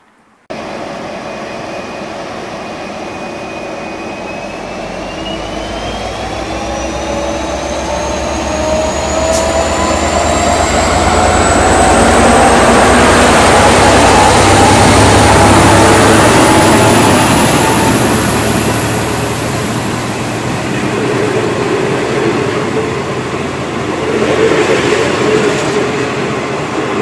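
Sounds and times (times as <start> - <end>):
diesel locomotive passing: 0.5 - 27.0
rising engine whine: 0.5 - 27.0.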